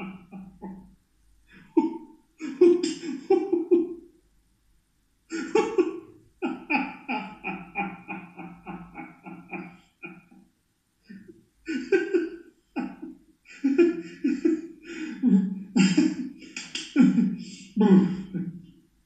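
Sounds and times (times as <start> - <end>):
man laughing: 0.0 - 0.7, 1.5 - 3.9, 5.3 - 10.4, 11.1 - 18.4.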